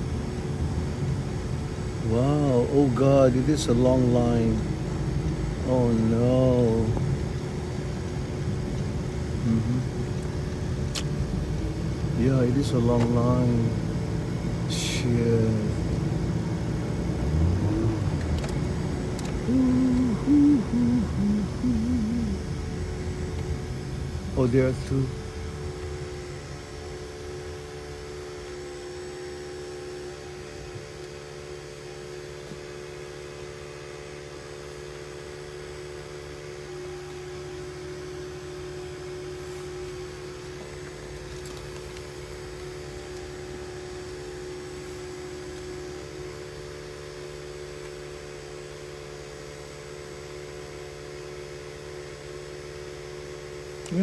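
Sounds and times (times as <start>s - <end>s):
car cabin engine hum: 0.0s - 54.0s.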